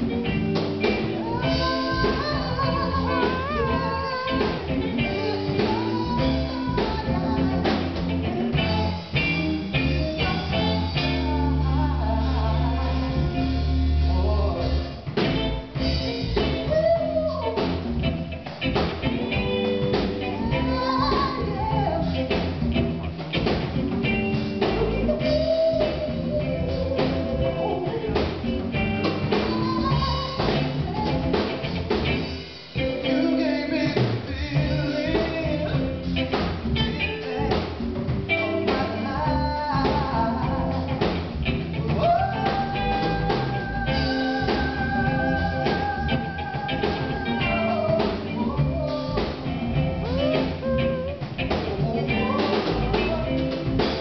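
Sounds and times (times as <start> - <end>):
drum kit: 0.0 - 54.0
guitar: 0.0 - 54.0
sliding lead melody: 0.0 - 54.0.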